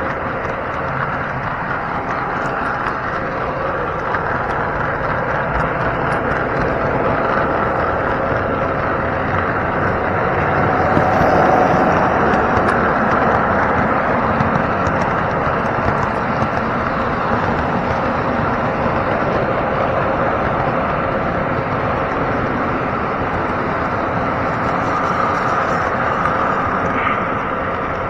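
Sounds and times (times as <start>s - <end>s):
model train rolling on track: 0.0s - 28.0s.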